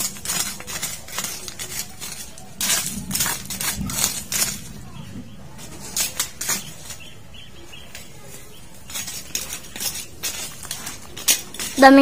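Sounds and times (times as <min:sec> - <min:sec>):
weeds and leaves rustling: 0:00.0 - 0:12.0.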